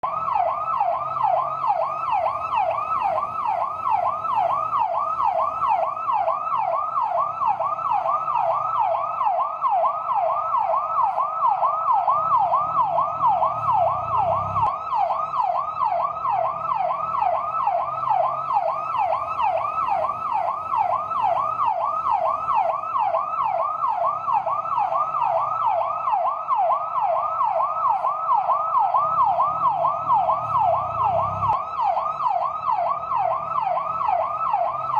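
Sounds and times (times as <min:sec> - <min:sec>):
electronic yelp siren: 0:00.0 - 0:34.9.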